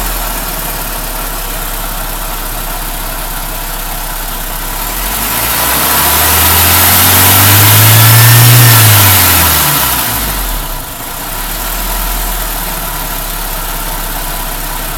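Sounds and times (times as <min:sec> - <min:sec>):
engine revving then idling: 0:00.0 - 0:14.9.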